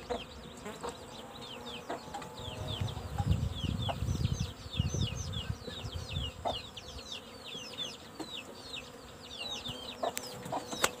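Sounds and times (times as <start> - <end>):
birds peeping and chirping: 0.0 - 11.0.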